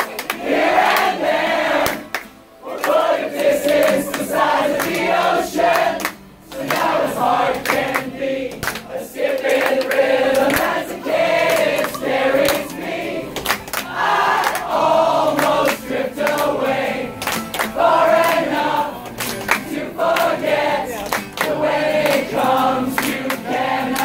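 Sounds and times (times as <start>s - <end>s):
crowd singing in unison: 0.0s - 24.0s.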